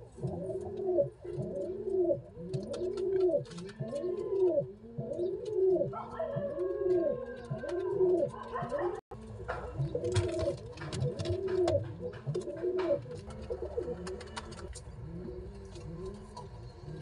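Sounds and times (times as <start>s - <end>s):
pigeon cooing: 0.0s - 17.0s.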